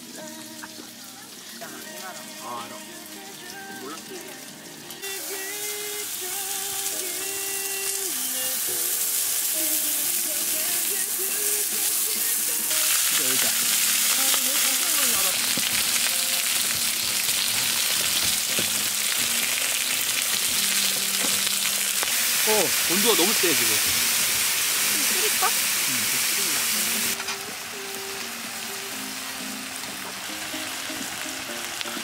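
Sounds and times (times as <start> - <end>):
meat sizzling on a griddle: 0.0 - 32.0.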